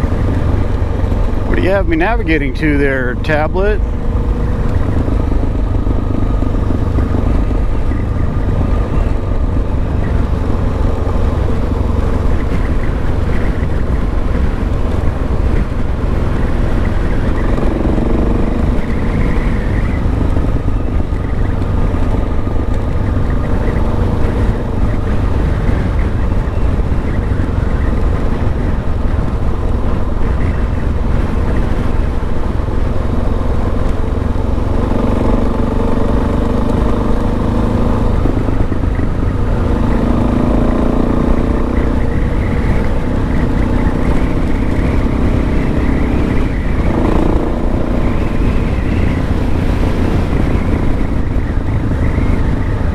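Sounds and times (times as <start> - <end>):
motorcycle engine running: 0.0 - 52.9
wind rumble on microphone: 0.0 - 52.9.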